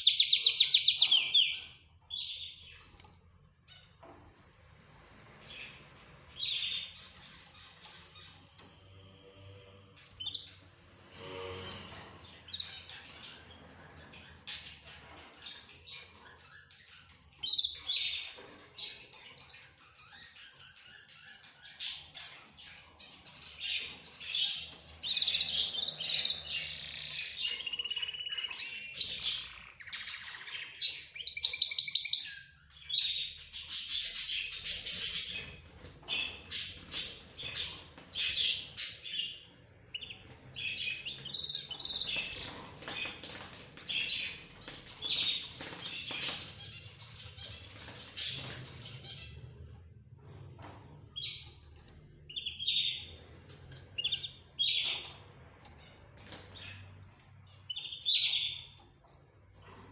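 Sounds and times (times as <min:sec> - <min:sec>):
cage birds chirping and calling: 0:00.0 - 0:59.9.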